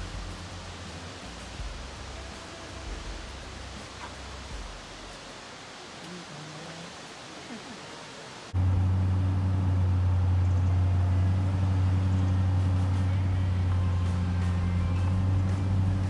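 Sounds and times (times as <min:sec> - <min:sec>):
vehicle engine and road noise: 0:00.0 - 0:07.2, 0:08.2 - 0:16.0.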